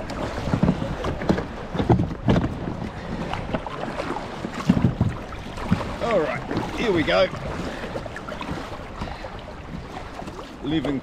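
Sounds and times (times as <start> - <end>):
paddle splashing water: 0.0 - 11.0
wind buffeting microphone: 0.0 - 11.0.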